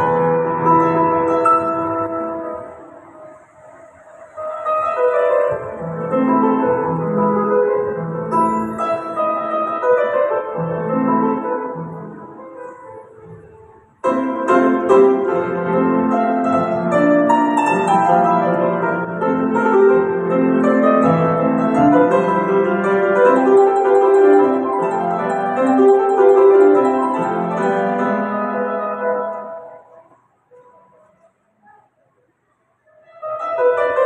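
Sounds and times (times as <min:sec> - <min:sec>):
piano playing: 0:00.0 - 0:31.4, 0:33.0 - 0:34.0.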